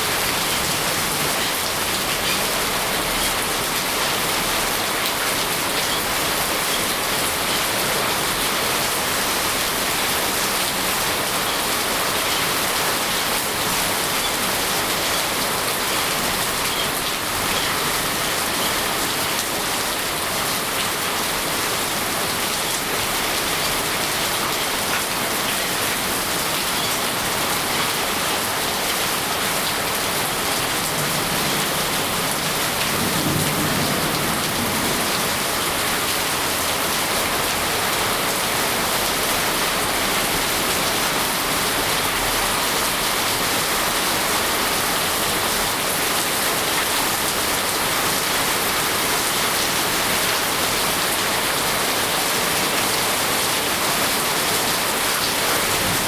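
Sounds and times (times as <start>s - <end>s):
heavy rain rushing: 0.0s - 56.0s.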